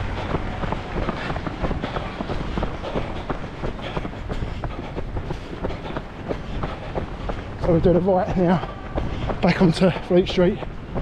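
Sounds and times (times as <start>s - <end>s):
low rumble: 0.0s - 11.0s
runners' footsteps on road: 0.0s - 11.0s.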